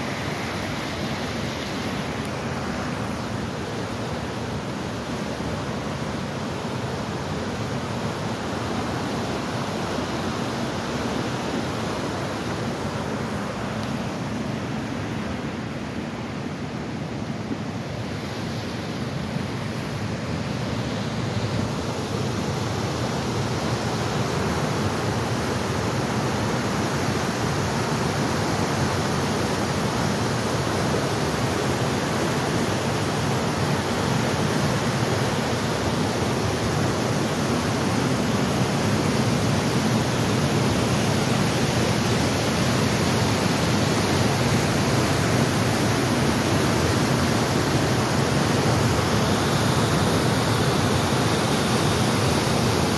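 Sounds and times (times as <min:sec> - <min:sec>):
white water rushing: 0:00.0 - 0:52.9.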